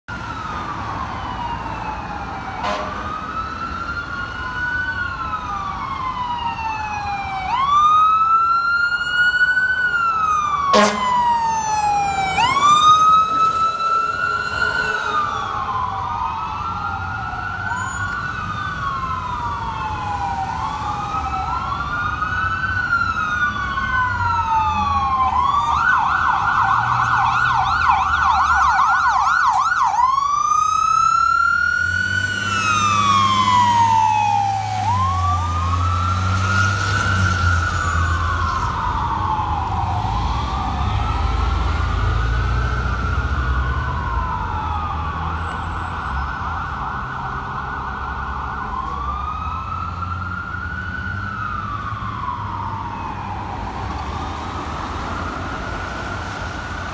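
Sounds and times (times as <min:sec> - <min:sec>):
fire truck sirens wailing: 0:00.0 - 0:56.9
traffic rumble: 0:00.1 - 0:56.9
siren fast yelp: 0:01.0 - 0:47.4.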